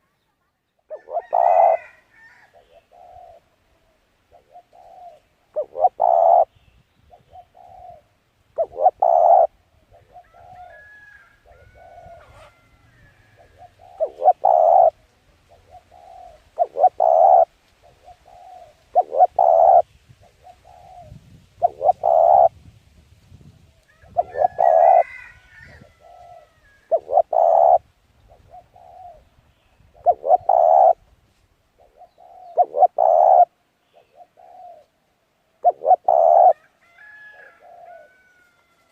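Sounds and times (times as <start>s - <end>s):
dove cooing: 0.9s - 6.5s, 7.1s - 22.6s, 24.0s - 31.0s, 31.8s - 35.0s, 35.6s - 38.6s.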